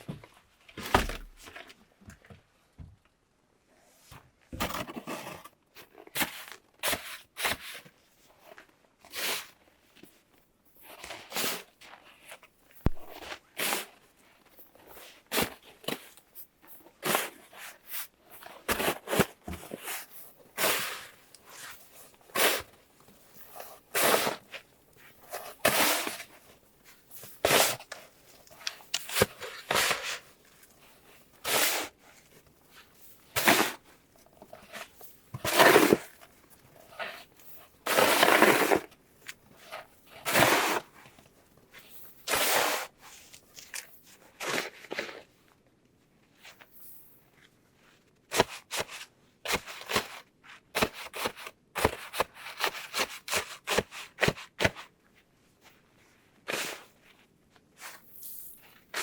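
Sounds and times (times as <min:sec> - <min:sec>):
rustling and scraping by hand: 0:03.6 - 0:59.0.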